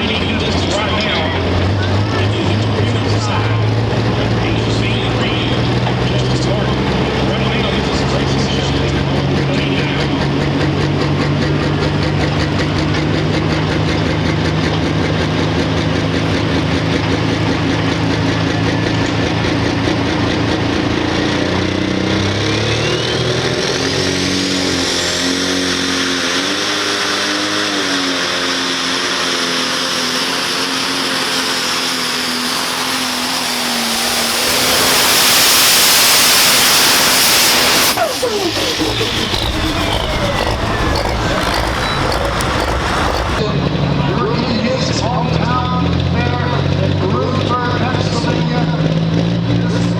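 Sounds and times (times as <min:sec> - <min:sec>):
tractor diesel engine roaring: 0:00.0 - 0:49.9
turbocharger whine: 0:00.0 - 0:49.9.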